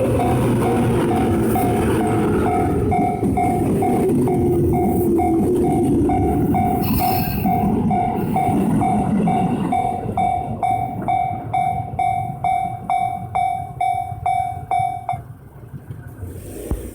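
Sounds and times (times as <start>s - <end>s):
level crossing bell clanging: 0.0s - 15.3s
train rumbling past: 0.0s - 16.9s.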